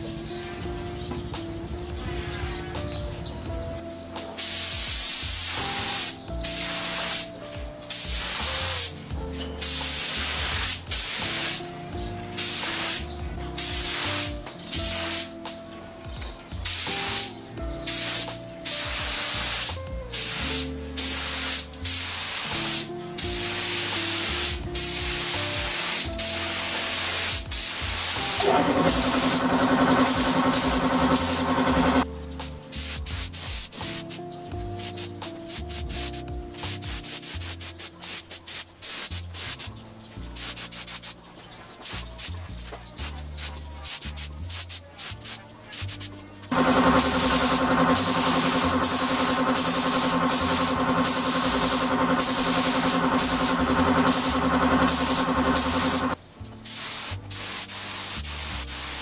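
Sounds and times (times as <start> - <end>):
background music: 0.0 - 59.0
spray gun hissing: 4.4 - 9.0, 9.6 - 11.7, 12.4 - 15.4, 16.6 - 32.0, 32.7 - 34.2, 34.8 - 39.7, 40.4 - 41.2, 41.8 - 42.3, 43.0 - 59.0.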